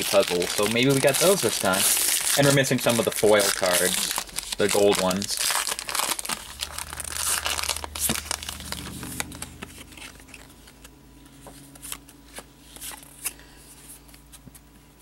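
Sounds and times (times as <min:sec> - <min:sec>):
foil wrapper crinkling: 0:00.0 - 0:13.4.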